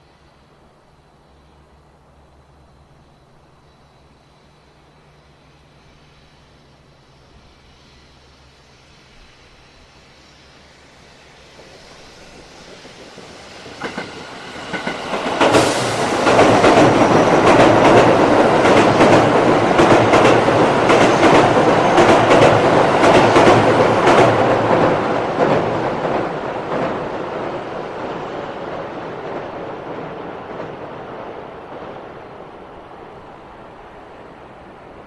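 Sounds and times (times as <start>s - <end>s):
freight train passing: 0.0s - 35.0s.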